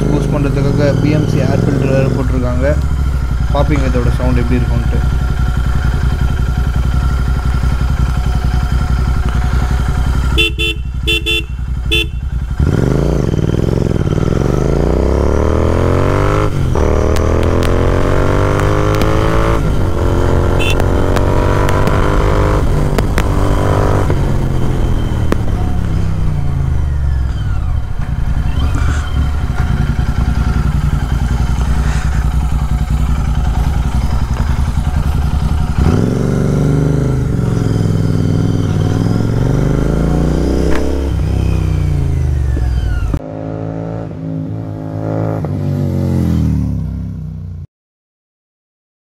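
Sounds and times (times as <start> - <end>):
motorcycle engine revving: 0.0 - 47.6.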